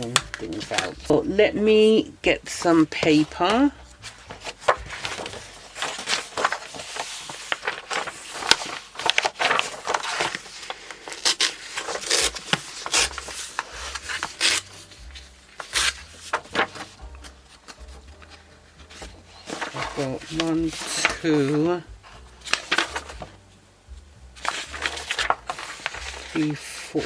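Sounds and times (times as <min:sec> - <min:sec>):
paper rustling and crinkling: 0:00.0 - 0:23.5, 0:24.4 - 0:27.0.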